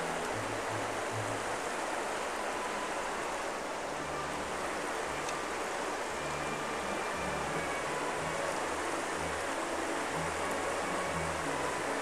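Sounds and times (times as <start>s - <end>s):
river flowing over pebbles: 0.0s - 12.0s.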